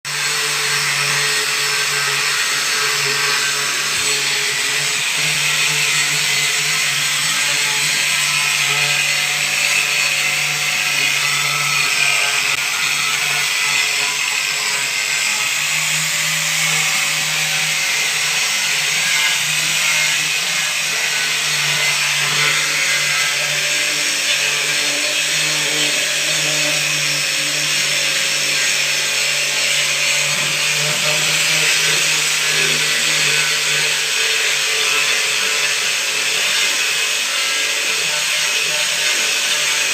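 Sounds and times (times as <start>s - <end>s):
woodworking power tool running: 0.1s - 39.9s.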